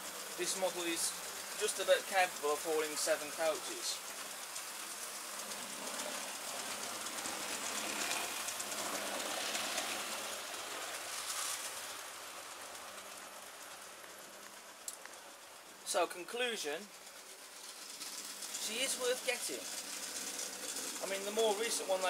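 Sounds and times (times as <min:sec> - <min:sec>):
model train running on rails: 0:00.0 - 0:22.0.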